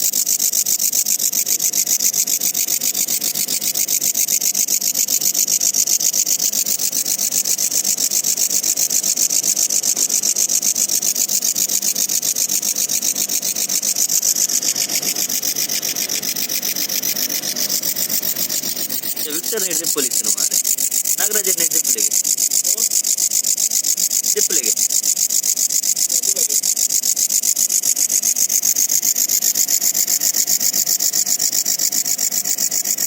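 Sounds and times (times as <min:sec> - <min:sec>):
locust buzzing: 0:06.4 - 0:33.0.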